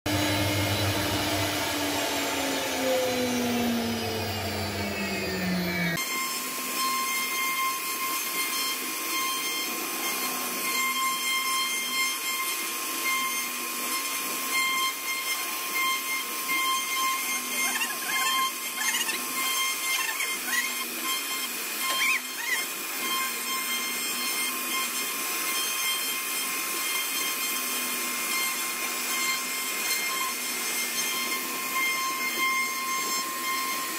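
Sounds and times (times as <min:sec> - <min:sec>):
bit cutting wood: 0:00.1 - 0:33.9
router spindle high whine: 0:00.1 - 0:33.9.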